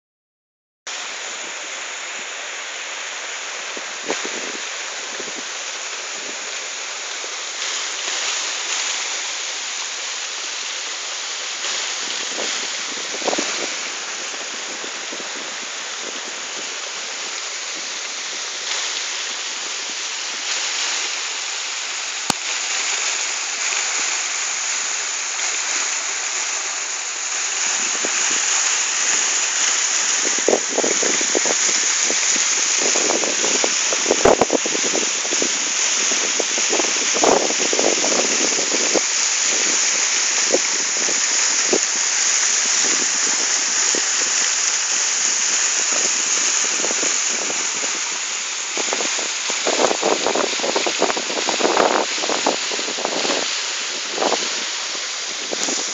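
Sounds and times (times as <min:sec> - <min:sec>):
waterfall rushing: 0:00.9 - 0:55.9.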